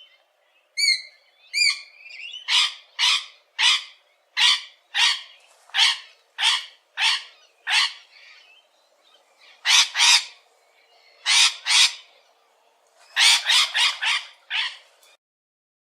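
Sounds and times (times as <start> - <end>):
bird harsh raspy calls: 0.7 - 12.4, 13.0 - 14.9.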